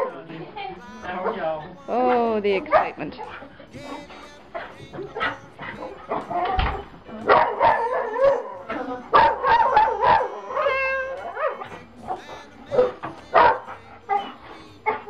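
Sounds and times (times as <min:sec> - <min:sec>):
dogs barking: 0:00.0 - 0:00.3, 0:01.1 - 0:15.0
dog howling: 0:00.8 - 0:15.0.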